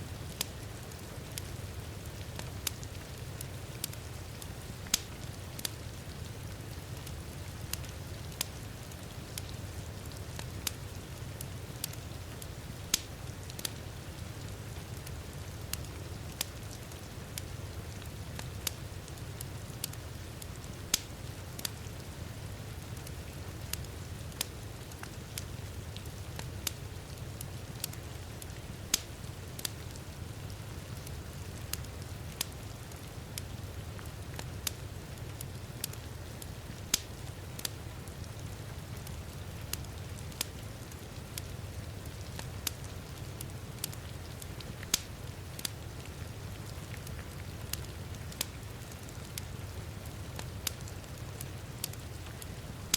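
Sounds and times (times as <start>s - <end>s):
wood fire crackling and popping: 0.1s - 52.9s.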